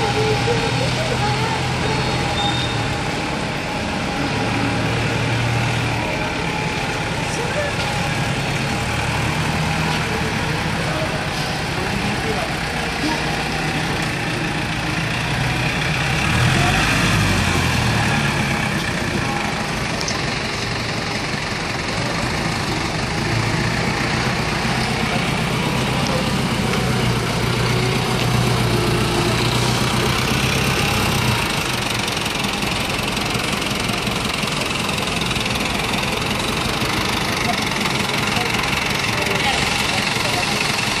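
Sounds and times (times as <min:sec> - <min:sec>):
forklift engine droning: 0:00.0 - 0:41.0.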